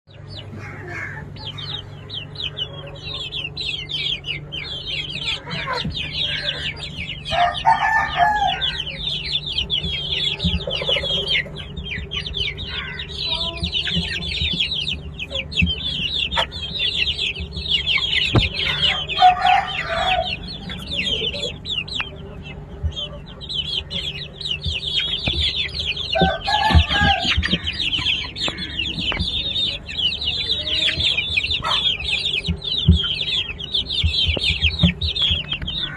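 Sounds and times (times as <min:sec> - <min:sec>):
many birds chirping: 0:00.1 - 0:35.9
steady low hum: 0:00.1 - 0:35.9.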